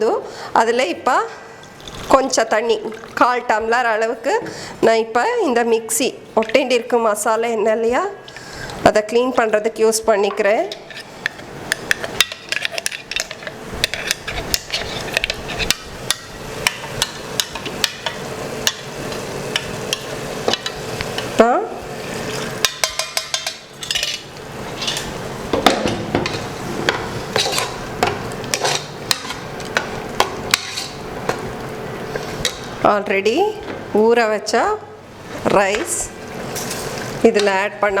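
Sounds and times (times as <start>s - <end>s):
low sizzle: 0.0s - 38.0s.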